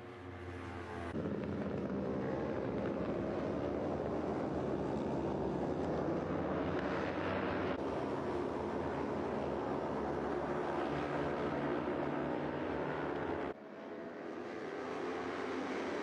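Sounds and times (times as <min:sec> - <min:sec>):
racing motorcycle engines: 0:00.0 - 0:16.0.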